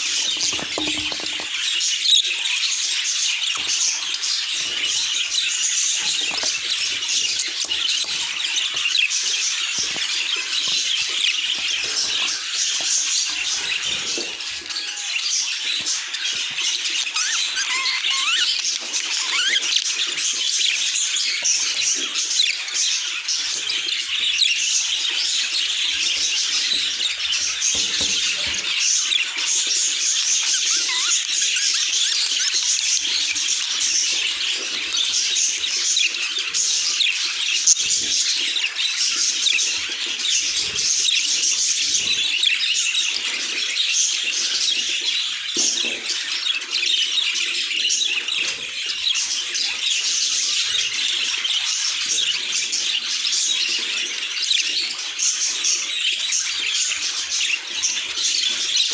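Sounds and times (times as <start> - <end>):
budgerigars chattering and warbling: 0.0 - 58.9.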